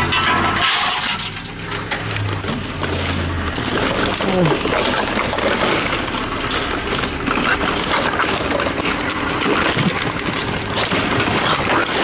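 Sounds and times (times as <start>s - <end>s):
vending machine crushing cans: 0.0s - 12.0s.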